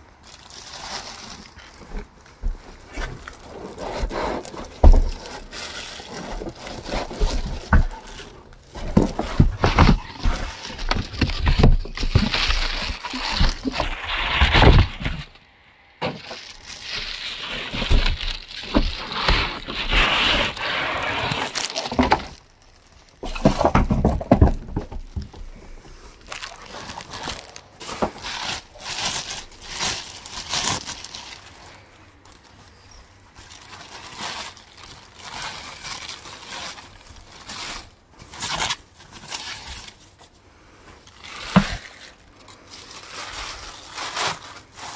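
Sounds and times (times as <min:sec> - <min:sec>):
plastic bags crinkling: 0:00.0 - 0:44.9.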